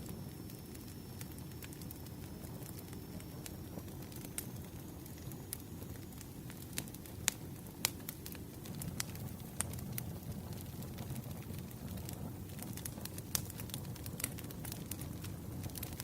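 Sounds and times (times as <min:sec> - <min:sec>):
burning wood crackles and pops: 0:00.0 - 0:16.0
campfire low rumble: 0:00.0 - 0:16.0.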